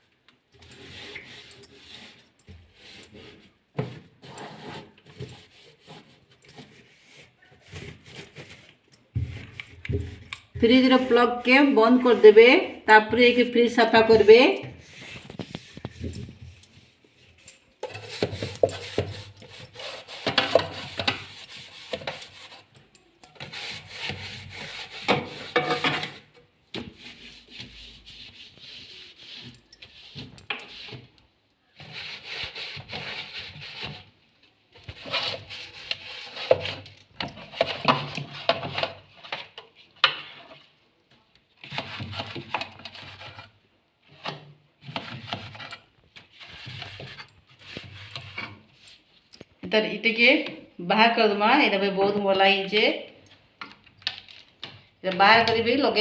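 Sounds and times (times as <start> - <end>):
rubbing and scraping: 0.6 - 40.7, 41.6 - 44.2, 44.8 - 49.2.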